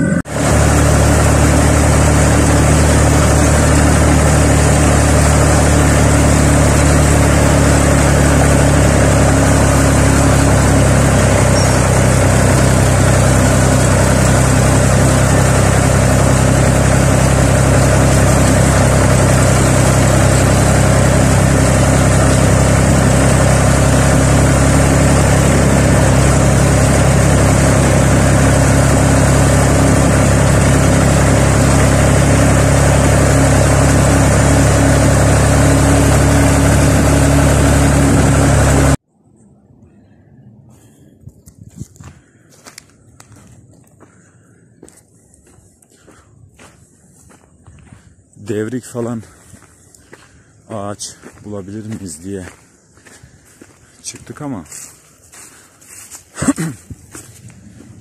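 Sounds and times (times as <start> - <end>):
tractor engine running: 0.0 - 39.1, 41.2 - 58.0.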